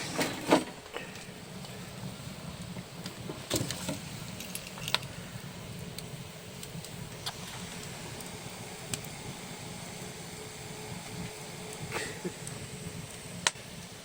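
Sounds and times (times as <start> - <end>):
sharp pops from fire: 0.0 - 14.0
wood bonfire crackling: 0.0 - 14.0.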